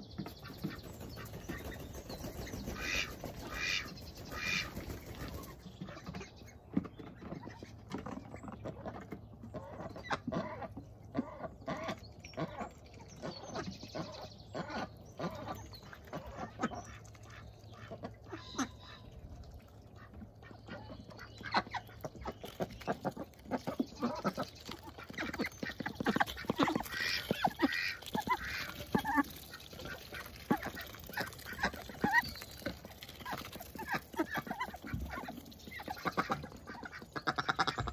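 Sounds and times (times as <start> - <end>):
ducks quacking: 0.2 - 6.5, 7.2 - 37.9.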